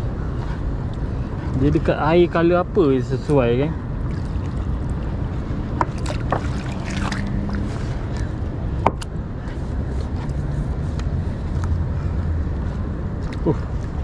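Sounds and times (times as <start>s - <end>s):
low rumble of water and air: 0.0s - 14.0s.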